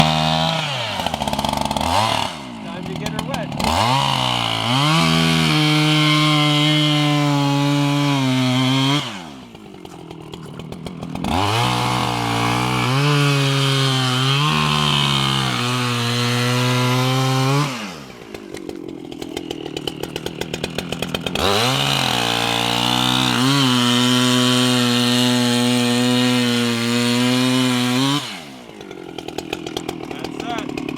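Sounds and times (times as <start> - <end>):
chainsaw revving and idling: 0.0 - 30.9.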